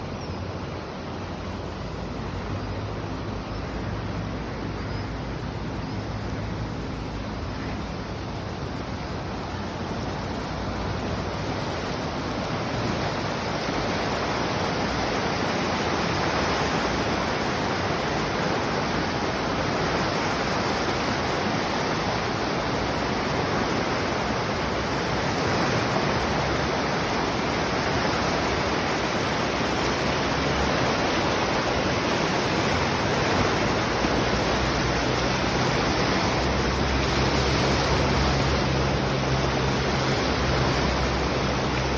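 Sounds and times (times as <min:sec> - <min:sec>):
water rushing over spillway: 0:00.0 - 0:41.9.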